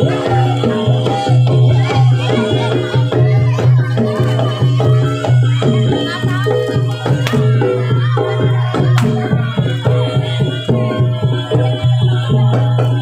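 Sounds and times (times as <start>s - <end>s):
hand drum strokes: 0.0s - 13.0s.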